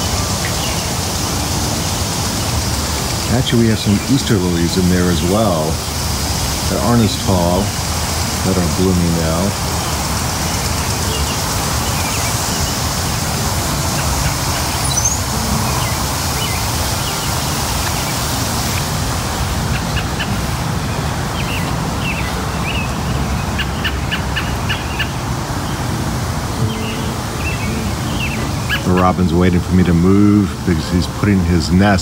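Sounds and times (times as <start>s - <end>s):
small birds chirping: 0.0s - 31.3s
lawn sprinkler spray hissing: 0.0s - 32.0s.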